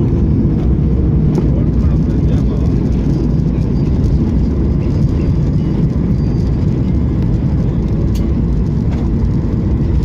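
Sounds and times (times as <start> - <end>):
airplane cabin rumble while taxiing: 0.0 - 10.0.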